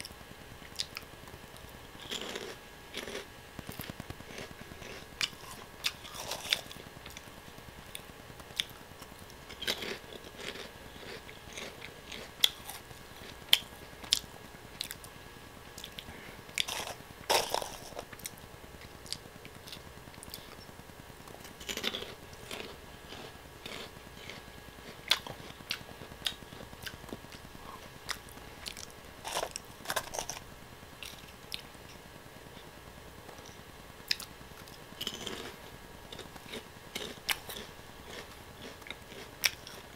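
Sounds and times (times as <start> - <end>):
quiet chewing: 0.6 - 7.3, 7.9 - 15.1, 15.8 - 30.4, 33.3 - 39.9
crunchy snack crunching: 0.7 - 15.1, 15.8 - 20.7, 21.3 - 31.7, 33.4 - 39.9.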